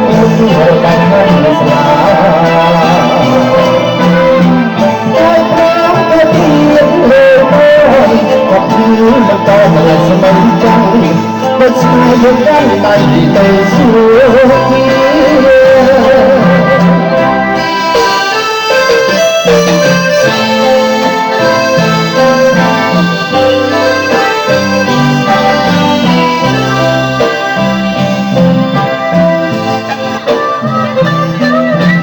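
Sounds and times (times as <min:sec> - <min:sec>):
held melody notes: 0:00.0 - 0:32.0
repeating bass line: 0:00.0 - 0:32.0.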